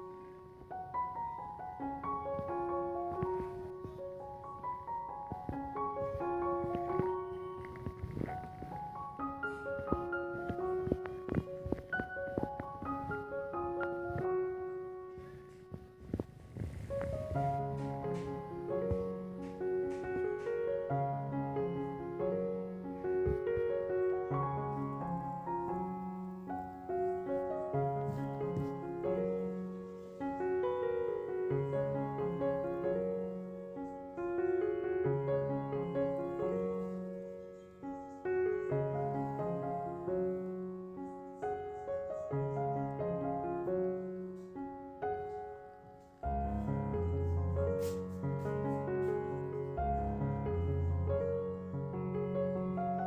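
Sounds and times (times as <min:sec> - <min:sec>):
gentle piano music: 0:00.0 - 0:53.0.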